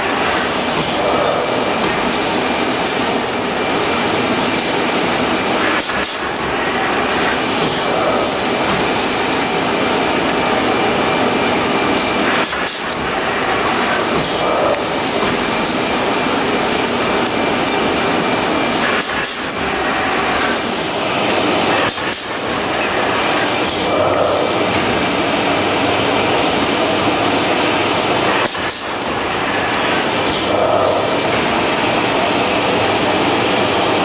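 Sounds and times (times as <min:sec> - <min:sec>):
bag making machine running: 0:00.0 - 0:34.0.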